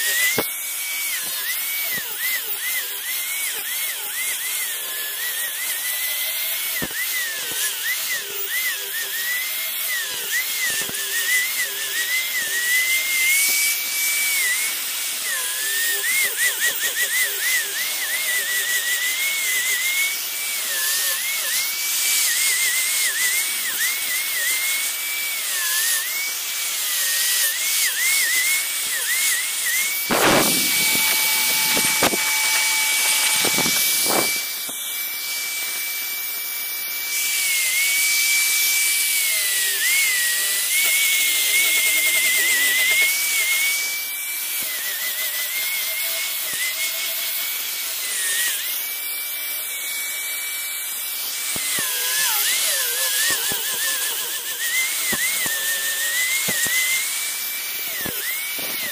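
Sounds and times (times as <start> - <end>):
angle grinder sanding wood: 0.0 - 58.9.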